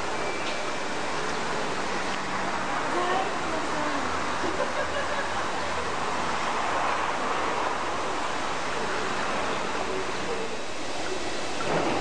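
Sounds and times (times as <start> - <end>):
railway station hiss and hum: 0.0 - 12.0.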